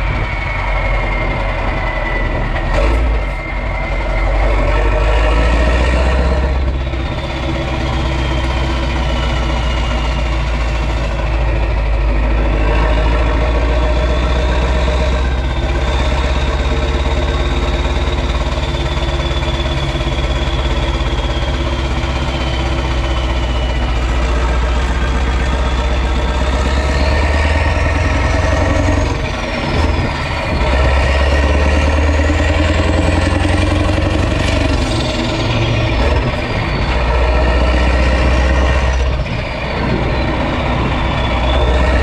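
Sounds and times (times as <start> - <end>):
deep diesel truck engine: 0.0 - 42.0
high turbo whistle: 0.0 - 42.0.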